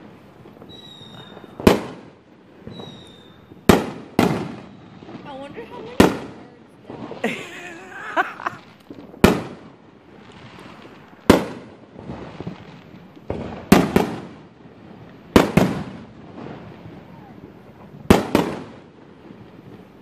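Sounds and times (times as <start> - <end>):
faint fireworks pops: 0.0 - 20.0
fireworks bangs: 0.0 - 20.0.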